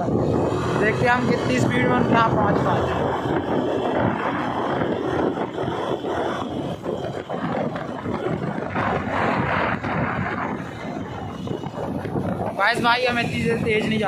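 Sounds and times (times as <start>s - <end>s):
scooter engine running: 0.0s - 13.9s
wind rushing over microphone: 0.0s - 14.0s.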